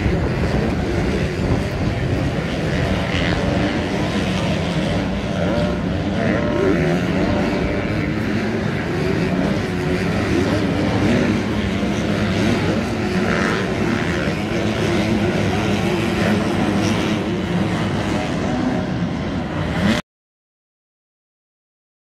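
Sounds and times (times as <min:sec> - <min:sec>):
dirt bike engines racing: 0:00.0 - 0:20.0.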